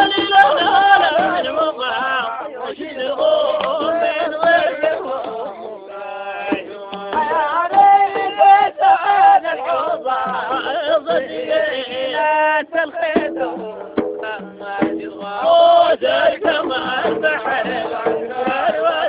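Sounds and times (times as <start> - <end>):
men singing long held notes: 0.0 - 19.0.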